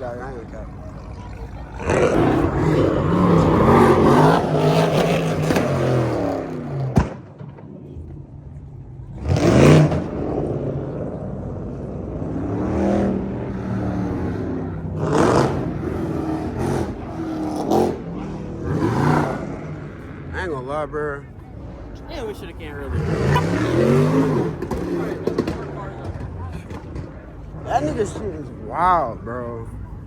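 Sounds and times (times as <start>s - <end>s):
car engine revving: 0.0s - 7.2s, 7.8s - 29.2s.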